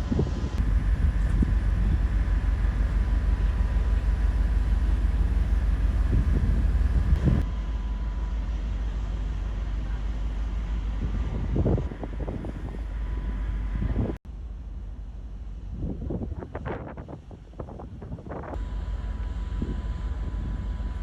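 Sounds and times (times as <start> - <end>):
faint steady whine: 0.0 - 17.6, 18.4 - 21.0
low engine rumble: 0.0 - 21.0.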